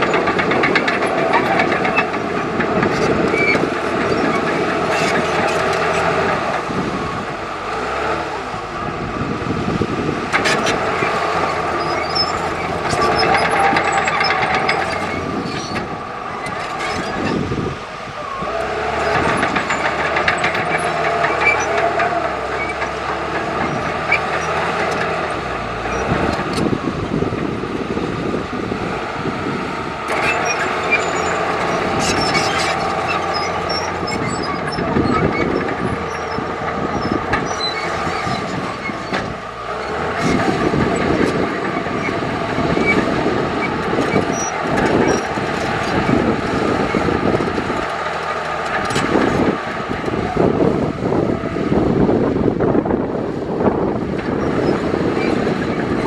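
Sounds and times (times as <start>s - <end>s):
diesel engine under load: 0.0s - 56.0s
machinery clanks and rattles: 0.0s - 56.0s.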